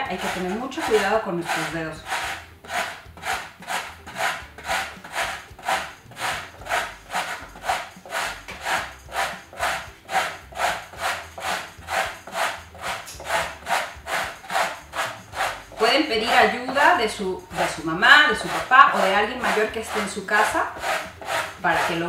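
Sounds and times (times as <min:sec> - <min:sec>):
carrot grated on metal grater: 0:00.0 - 0:22.0.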